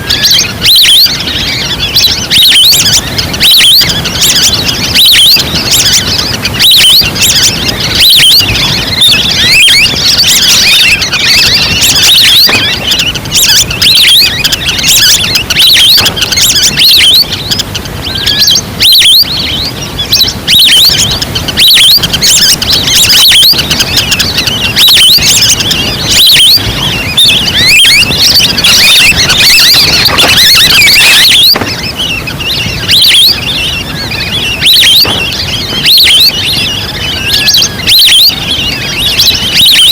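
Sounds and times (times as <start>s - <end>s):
ducks whistling chirps: 0.0s - 39.9s.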